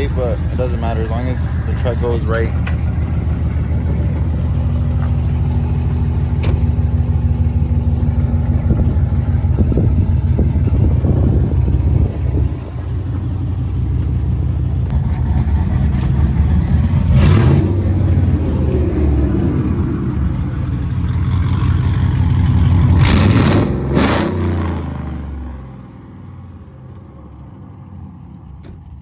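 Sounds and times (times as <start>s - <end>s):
truck engine running: 0.0s - 25.8s.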